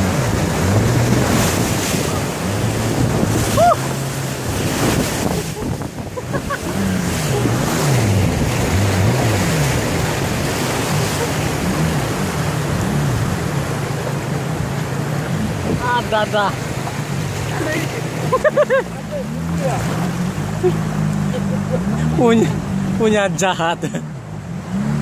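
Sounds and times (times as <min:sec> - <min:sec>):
boat motor running: 0:00.0 - 0:25.0
river rapids rushing: 0:00.0 - 0:25.0.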